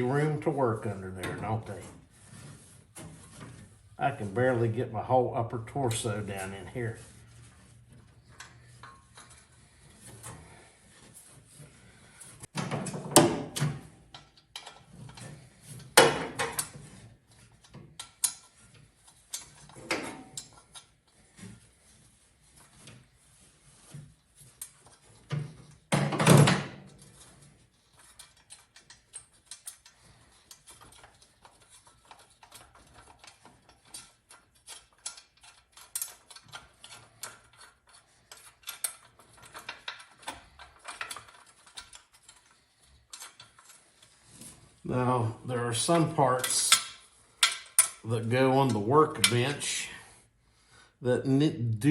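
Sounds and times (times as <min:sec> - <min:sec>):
tools and metal parts clattering: 0:00.0 - 0:44.8, 0:45.7 - 0:49.9.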